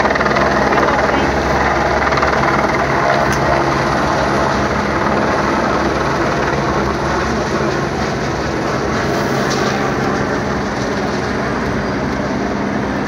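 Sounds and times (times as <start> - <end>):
distant helicopter drone: 0.0 - 13.0.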